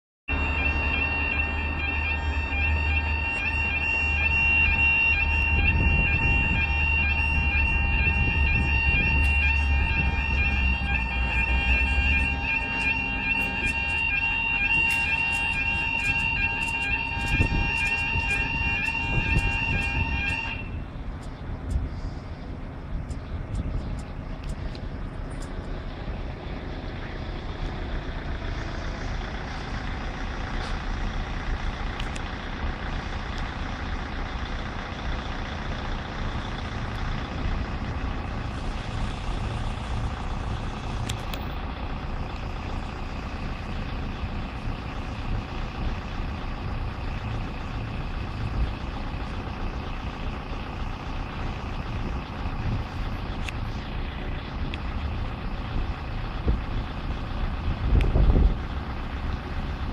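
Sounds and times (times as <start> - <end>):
road traffic rumble: 0.3 - 59.9.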